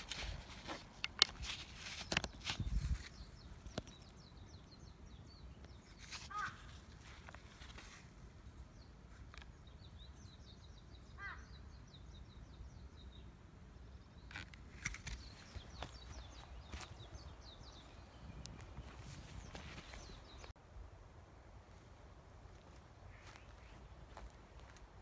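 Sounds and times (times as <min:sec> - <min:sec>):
faint birdsong chirps: 0:00.0 - 0:25.0.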